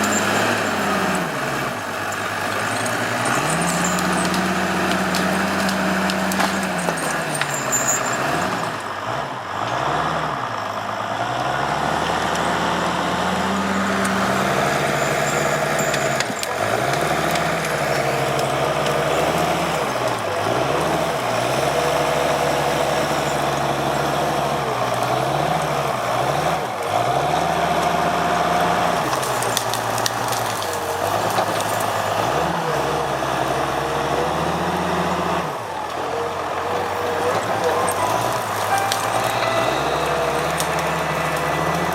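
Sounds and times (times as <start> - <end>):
diesel engine working hard: 0.0 - 41.9.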